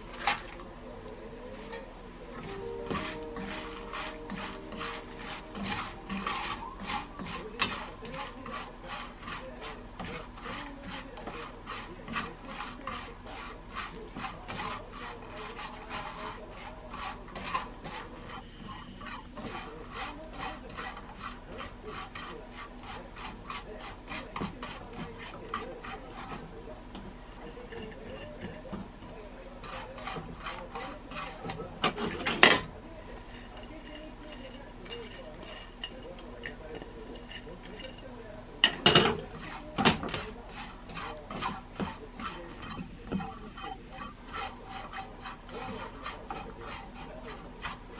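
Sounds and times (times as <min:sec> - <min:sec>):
utensil scraping a pan: 0:01.4 - 0:47.9.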